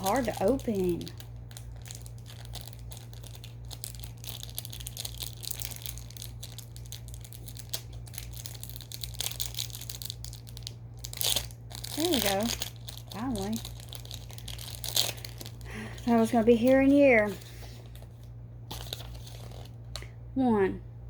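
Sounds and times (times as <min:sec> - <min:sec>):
plastic wrapper crinkling: 0:00.0 - 0:20.1
low steady hum: 0:00.0 - 0:21.0.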